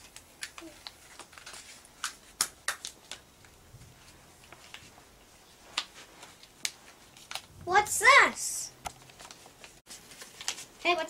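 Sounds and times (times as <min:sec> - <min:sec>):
paper crinkling and tapping: 0:00.0 - 0:05.0, 0:05.6 - 0:07.5, 0:08.8 - 0:11.0.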